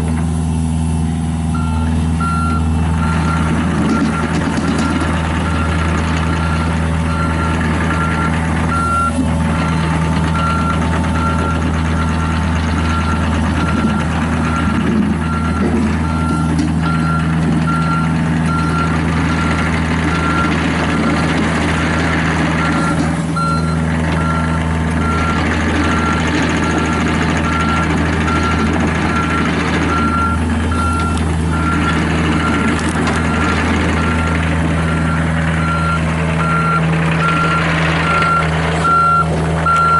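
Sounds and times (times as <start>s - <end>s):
diesel engine running: 0.0s - 39.9s
reversing alarm beeping: 1.5s - 39.9s.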